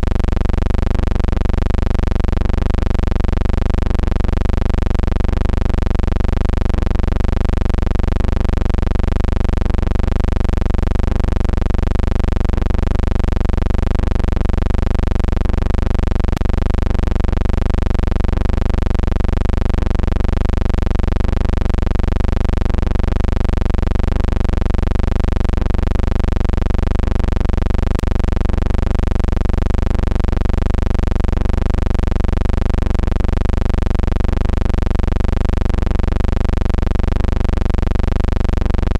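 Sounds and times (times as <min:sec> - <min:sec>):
machine-like hum: 0:00.0 - 0:38.9.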